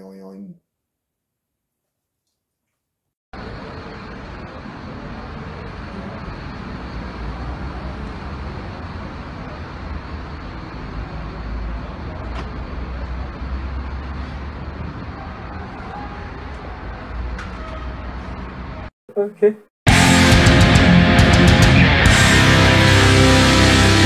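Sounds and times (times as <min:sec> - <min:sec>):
street noise: 0:03.4 - 0:18.9, 0:19.9 - 0:24.0.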